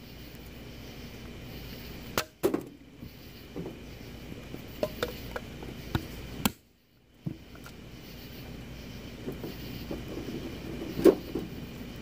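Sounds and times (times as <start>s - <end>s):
wood fire crackling in stove: 0.0s - 12.0s.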